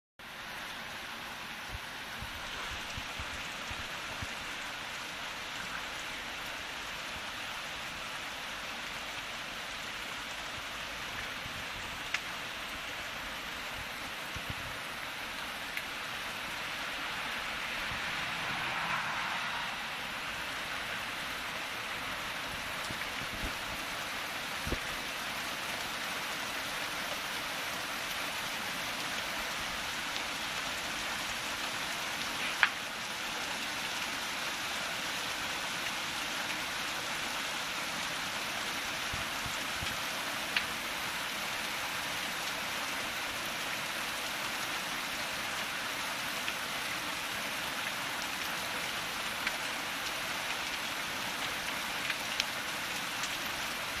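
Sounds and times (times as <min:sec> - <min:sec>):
steady rain hiss: 0:00.2 - 0:54.0.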